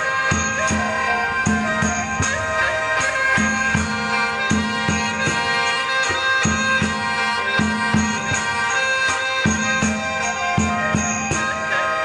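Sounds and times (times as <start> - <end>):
steady drum beat: 0.0 - 11.9
reedy wind instrument chords: 0.0 - 12.0.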